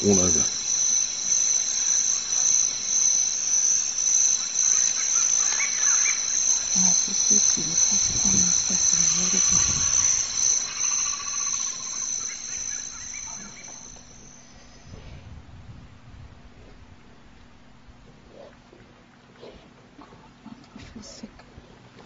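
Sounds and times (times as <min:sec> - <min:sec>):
chorus of insects droning: 0:00.0 - 0:19.1
low rumbling sounds: 0:00.0 - 0:19.3.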